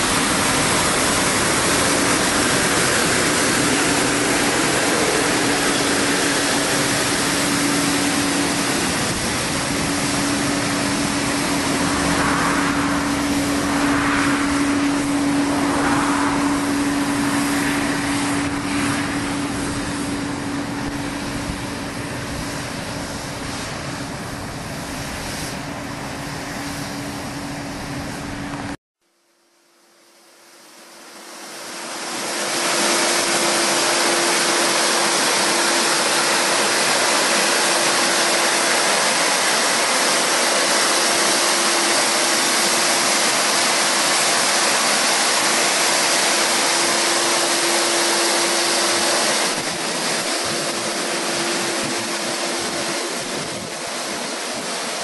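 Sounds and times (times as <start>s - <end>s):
road sweeper running: 0.0s - 28.8s, 30.4s - 55.0s.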